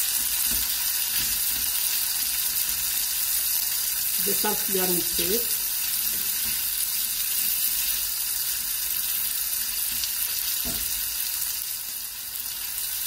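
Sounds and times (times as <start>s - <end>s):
onion sizzling in wok: 0.0s - 13.0s.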